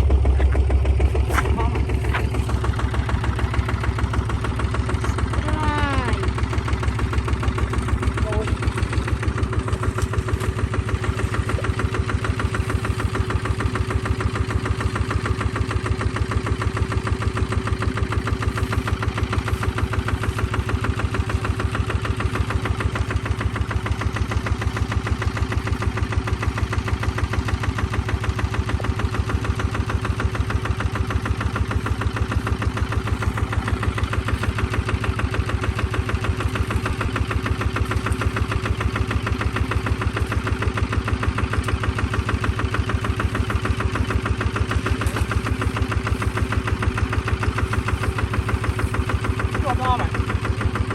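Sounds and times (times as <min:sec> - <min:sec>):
tractor engine chugging: 0:00.0 - 0:50.9.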